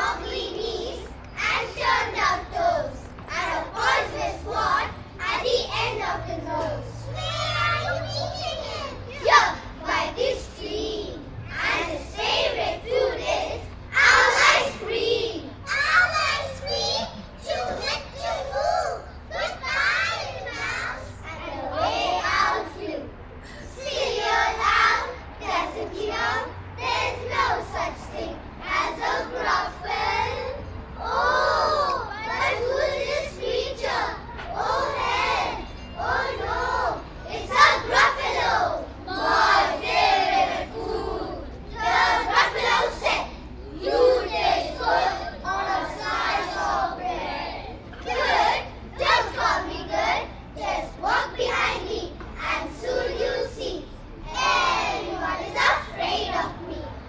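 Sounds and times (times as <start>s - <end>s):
children chanting in unison: 0.0s - 57.0s.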